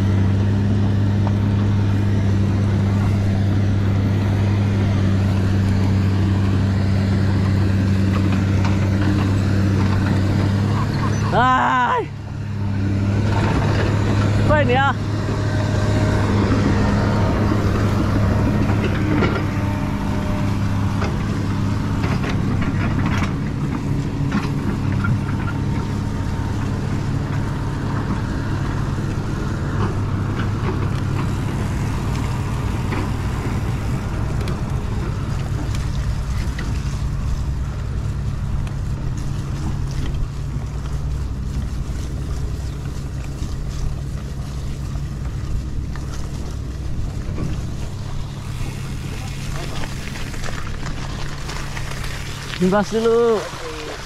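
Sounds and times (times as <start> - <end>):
vehicle driving on road: 0.0 - 54.0.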